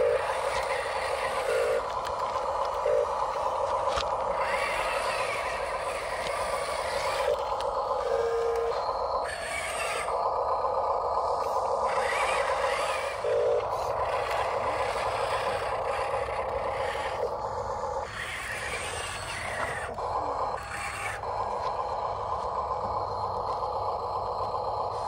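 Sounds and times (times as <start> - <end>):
small electric motors whirring: 0.0 - 25.0.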